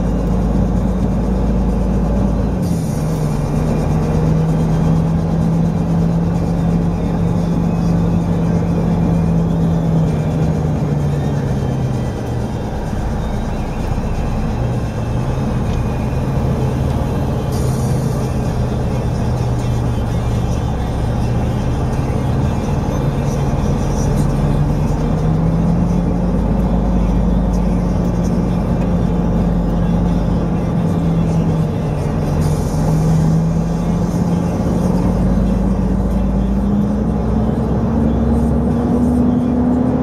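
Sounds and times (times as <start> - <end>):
truck engine running: 0.0 - 40.0.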